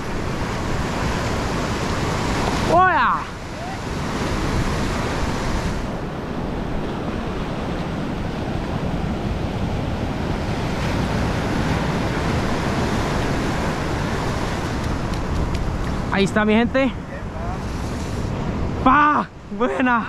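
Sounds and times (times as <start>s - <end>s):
wind buffeting microphone: 0.0s - 19.8s
surf washing over sandy beach: 0.0s - 20.0s.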